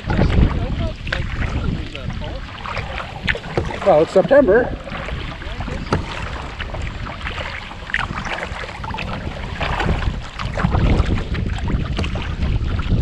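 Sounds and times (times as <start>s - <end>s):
water splashing against kayak hull: 0.0s - 13.0s
wind buffeting microphone: 0.0s - 13.0s.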